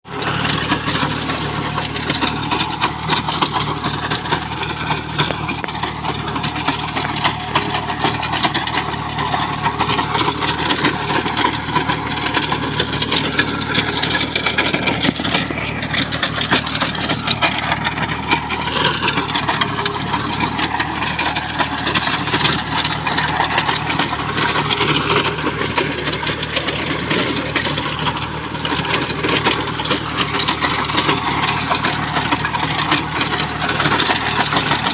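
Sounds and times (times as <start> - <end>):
tractor diesel engine running: 0.0 - 34.9
fine mechanical clatter: 0.1 - 34.9.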